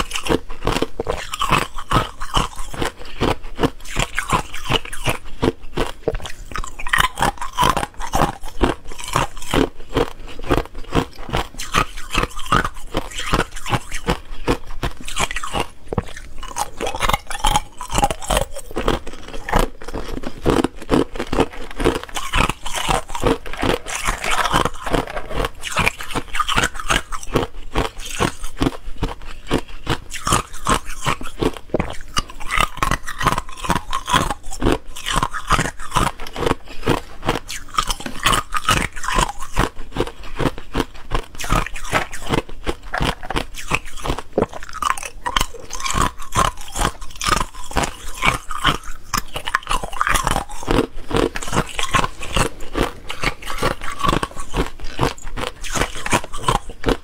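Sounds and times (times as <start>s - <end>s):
ice cubes crunching: 0.0s - 57.0s.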